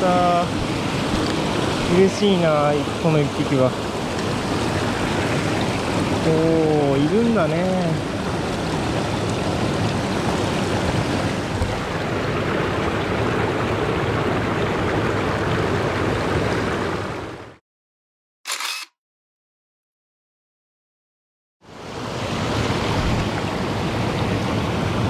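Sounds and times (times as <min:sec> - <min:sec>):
stream rushing over rocks: 0:00.0 - 0:17.4, 0:21.7 - 0:25.0.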